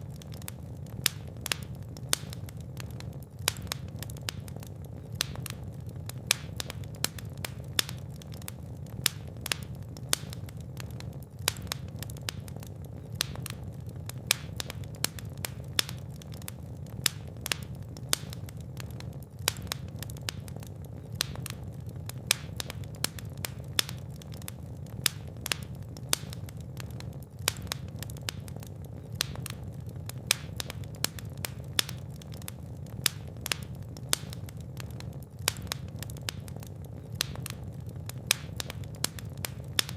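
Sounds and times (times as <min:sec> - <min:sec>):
fire popping and snapping: 0:00.0 - 0:39.9
low rumble of flames: 0:00.0 - 0:39.9.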